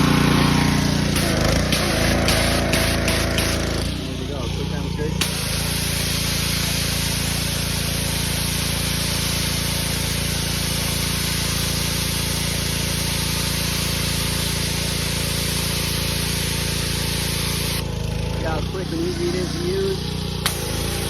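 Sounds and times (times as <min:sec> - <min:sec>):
high-pressure water spraying: 0:00.0 - 0:21.0
pressure washer engine running: 0:00.0 - 0:21.0.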